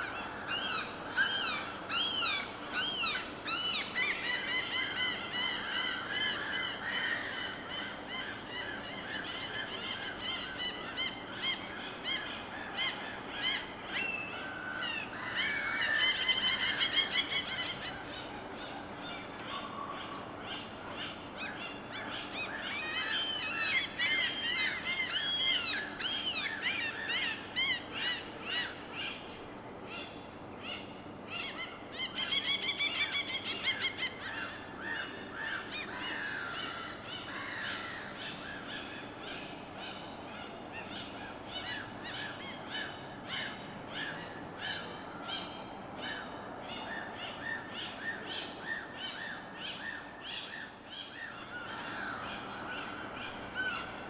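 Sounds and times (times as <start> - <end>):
birds calling and chirping: 0.0 - 54.0.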